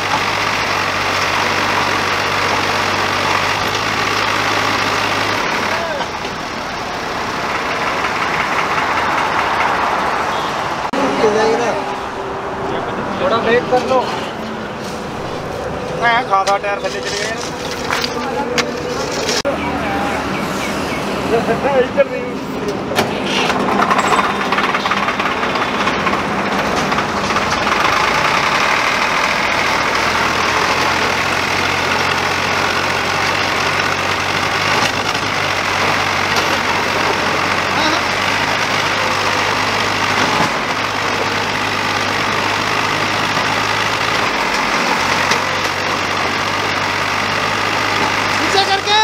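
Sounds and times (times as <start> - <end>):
diesel tractor engine running: 0.0 - 49.0.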